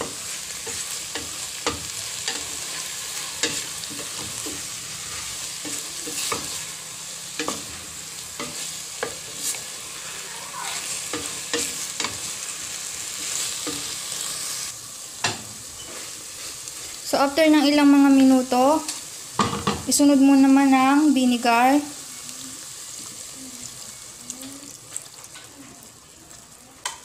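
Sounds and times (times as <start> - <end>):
meat sizzling in oil: 0.0 - 27.0.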